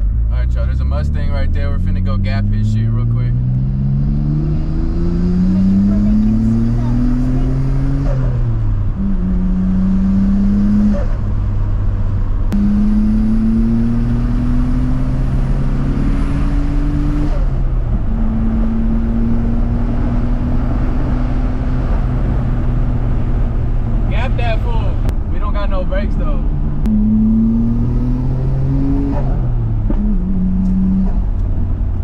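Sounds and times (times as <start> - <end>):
turbocharged car engine accelerating: 0.0 - 32.0.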